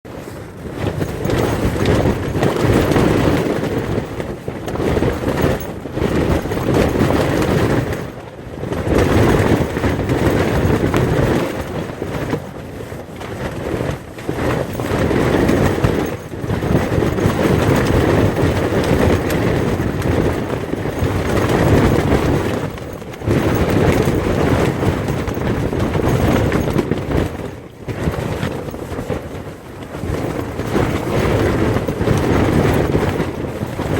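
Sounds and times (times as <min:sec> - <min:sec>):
strong wind buffeting a tent: 0:00.0 - 0:33.9.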